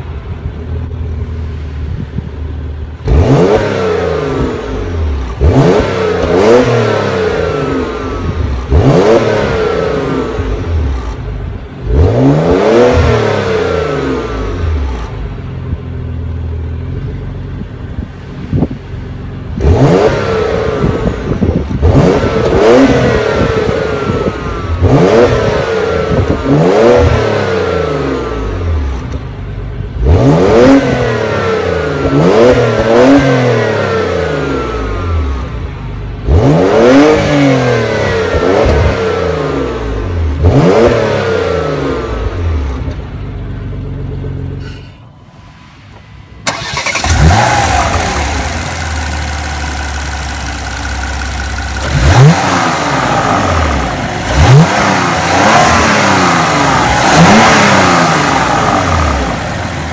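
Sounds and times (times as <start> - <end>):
car engine revving: 2.6 - 17.2, 19.3 - 59.9.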